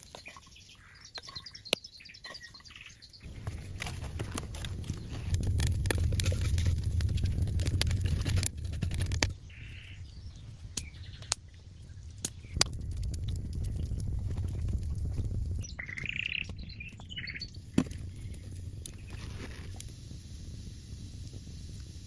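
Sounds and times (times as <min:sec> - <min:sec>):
low rumbling noise: 0:03.2 - 0:22.0.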